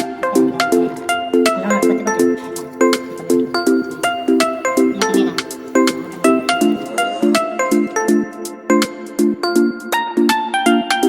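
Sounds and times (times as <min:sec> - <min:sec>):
bouncy tune with steady beat: 0:00.0 - 0:11.0.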